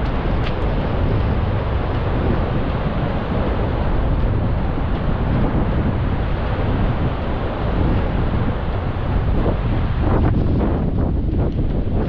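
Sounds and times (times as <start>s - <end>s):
ocean surf breaking: 0.0s - 10.7s
wind buffeting microphone: 0.0s - 12.0s.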